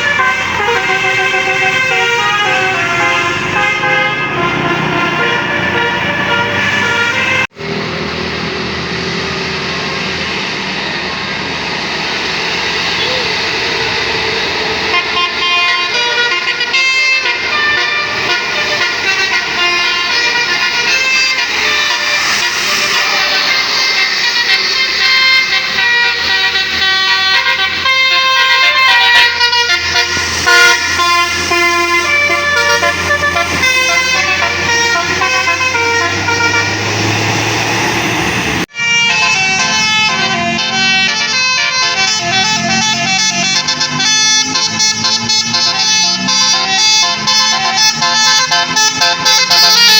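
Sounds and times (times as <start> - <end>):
multi-tone bus horn melody: 0.0 - 7.8, 14.7 - 49.9.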